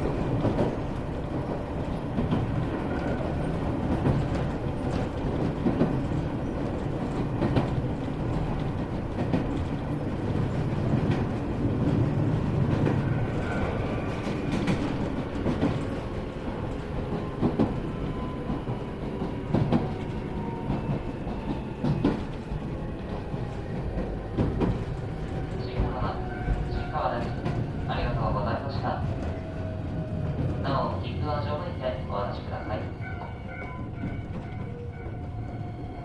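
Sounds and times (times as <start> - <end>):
rail joints clacking: 0.0 - 36.0
train wheels rumbling on rails: 0.0 - 36.0.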